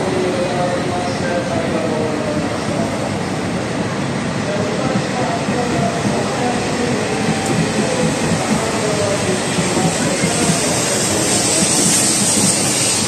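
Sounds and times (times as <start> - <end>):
train rolling past: 0.0 - 13.0.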